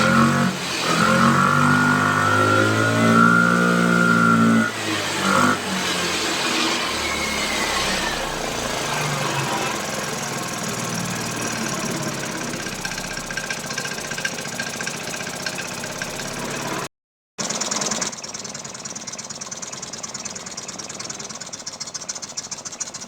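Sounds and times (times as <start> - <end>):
scooter engine running roughly: 0.0 - 7.2, 8.2 - 23.0.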